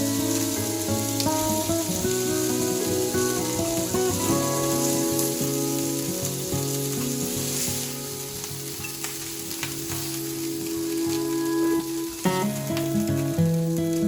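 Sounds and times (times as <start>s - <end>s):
background music: 0.0s - 14.0s
meatballs sizzling in oil: 0.0s - 14.0s.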